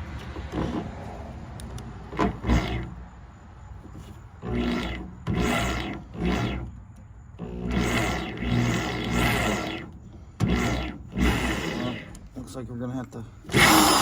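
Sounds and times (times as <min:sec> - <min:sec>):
low motor hum: 0:00.0 - 0:12.6, 0:13.2 - 0:14.0
wire-stripping machine grinding: 0:00.0 - 0:14.0.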